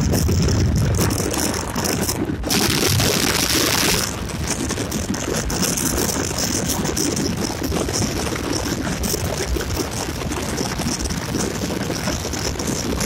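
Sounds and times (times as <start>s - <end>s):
motorcycle engine and road noise: 0.0s - 13.0s
wind rushing over microphone: 0.0s - 13.0s.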